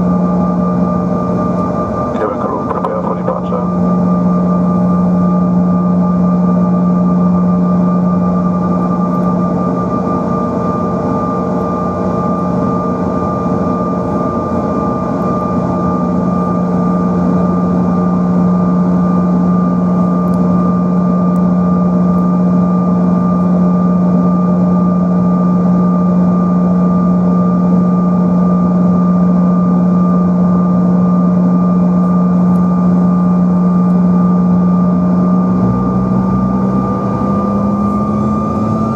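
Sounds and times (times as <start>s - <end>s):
jet engines in aircraft cabin: 0.0s - 38.9s.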